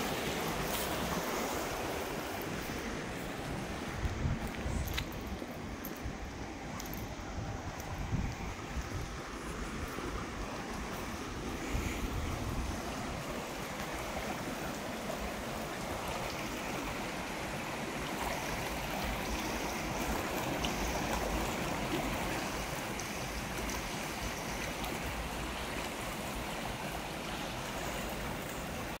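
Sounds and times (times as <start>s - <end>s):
muddy stream rushing: 0.0s - 29.0s.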